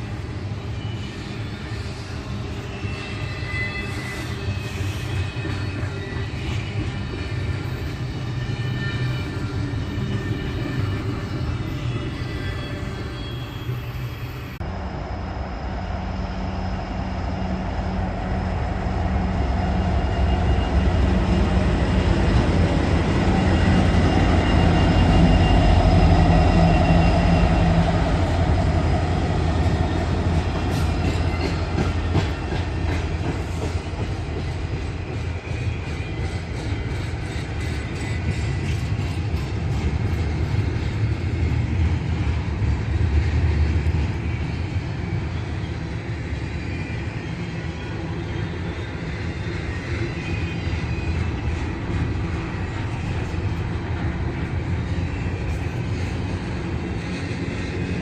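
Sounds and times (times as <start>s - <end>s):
train rumble and engine drone: 0.0s - 58.0s.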